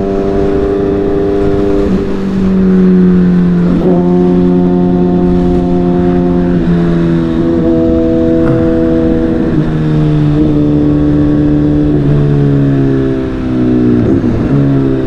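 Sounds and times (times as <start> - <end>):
low wind rumble: 0.0 - 15.0
motorcycle engine revving: 0.0 - 15.0.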